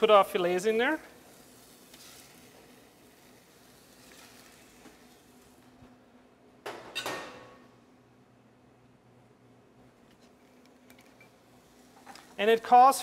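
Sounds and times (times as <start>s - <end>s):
faint steady hiss and hum: 0.0s - 13.0s.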